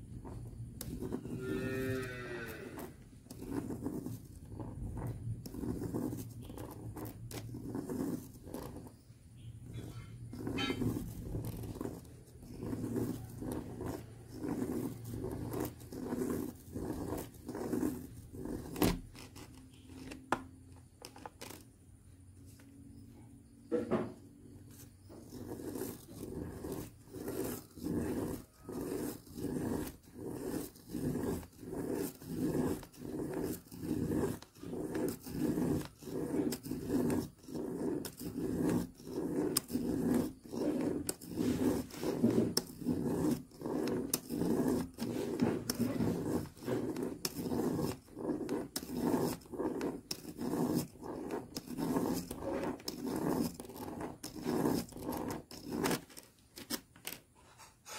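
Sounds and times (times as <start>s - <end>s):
pen scratching on paper: 0.0s - 21.6s, 23.8s - 56.8s.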